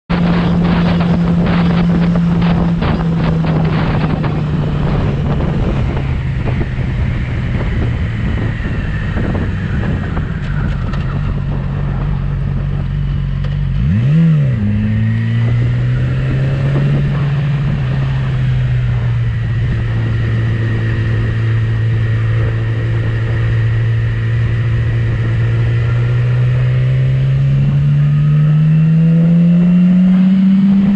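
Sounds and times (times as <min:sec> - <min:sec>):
motorcycle engine running: 0:00.1 - 0:30.9.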